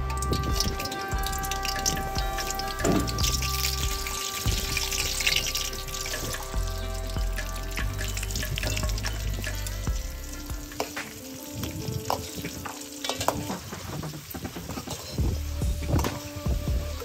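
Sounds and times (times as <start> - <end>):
chillies sizzling in oil: 0.1 - 15.5.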